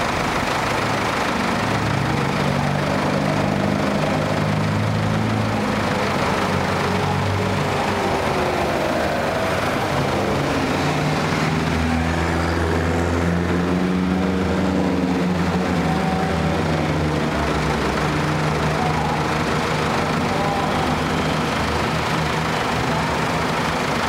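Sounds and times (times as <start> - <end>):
cars driving slowly past: 0.0 - 24.0.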